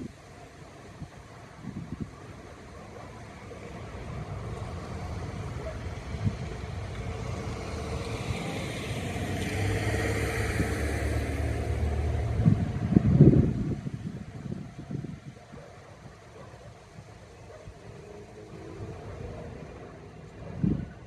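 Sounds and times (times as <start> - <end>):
road vehicle passing: 0.0 - 21.0.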